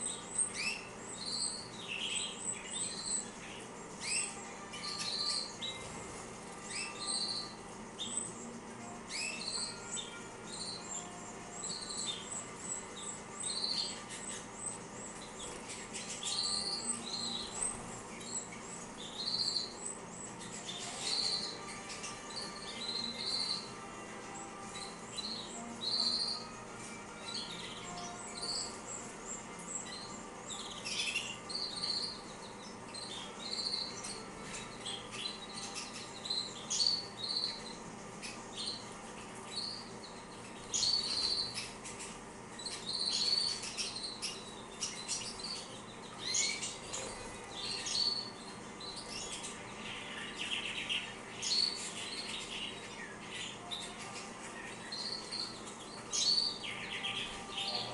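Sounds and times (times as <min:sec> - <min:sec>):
canaries chirping: 0:00.0 - 0:57.9.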